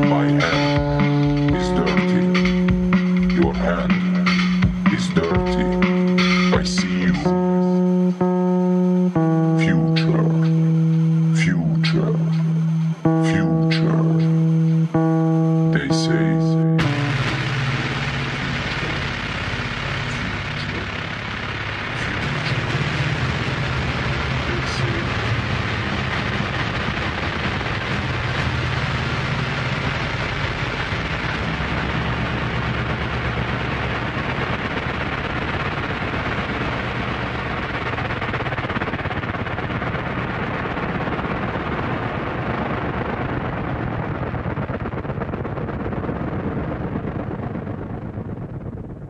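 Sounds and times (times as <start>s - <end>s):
dense crackling noise: 0.0s - 49.0s
low steady hum: 0.0s - 49.0s.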